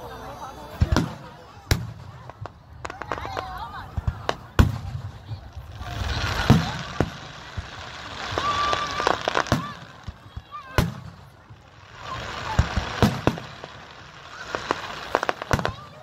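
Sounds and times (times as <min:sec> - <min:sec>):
fireworks crackling: 0:00.5 - 0:16.0
fireworks bangs: 0:00.7 - 0:16.0.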